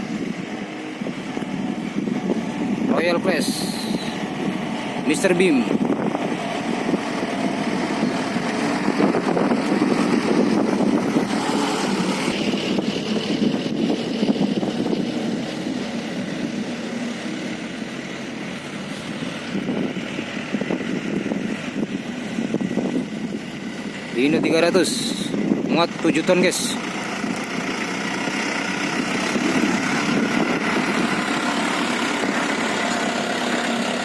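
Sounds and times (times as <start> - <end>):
dump truck diesel engines passing: 0.0 - 34.0.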